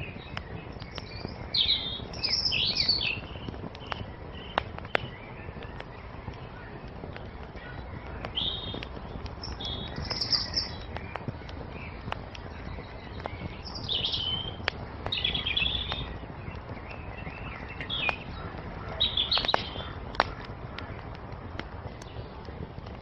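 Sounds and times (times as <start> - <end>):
songbirds chirping: 0.0 - 23.0
wood fire crackling and popping: 0.0 - 23.0.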